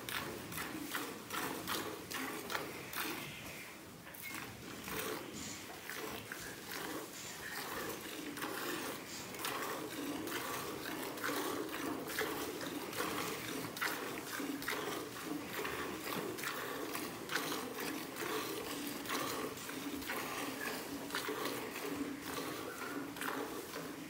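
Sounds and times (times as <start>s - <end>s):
milk squirting into pail: 0.0s - 24.0s.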